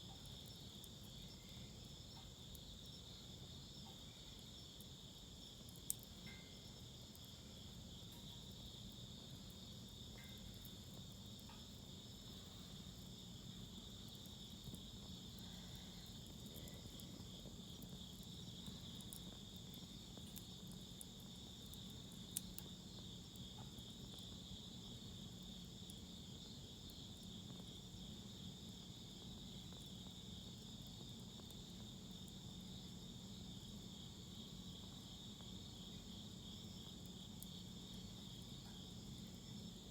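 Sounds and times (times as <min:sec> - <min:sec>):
burning wood popping: 0:00.0 - 0:39.9
insects chirring: 0:00.0 - 0:39.9.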